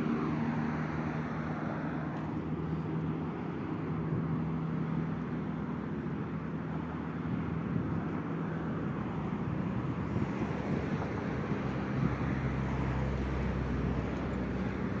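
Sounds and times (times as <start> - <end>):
steady road traffic: 0.0 - 15.0.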